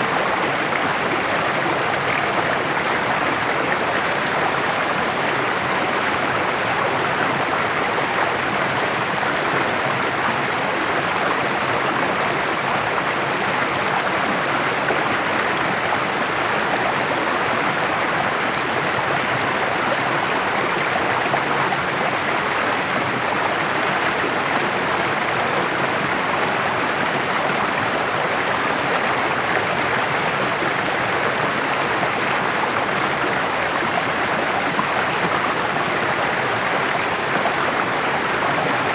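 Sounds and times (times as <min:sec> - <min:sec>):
creek babbling over rocks: 0:00.0 - 0:38.9.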